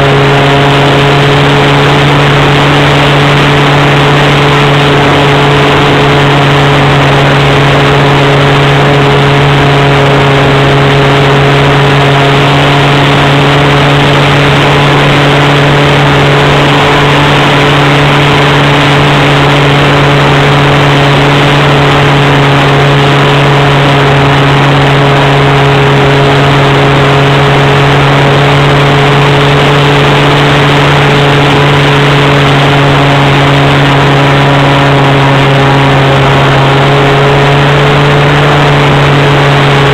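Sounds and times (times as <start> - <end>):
air rushing over microphone: 0.0 - 39.9
model plane engine droning: 0.0 - 39.9.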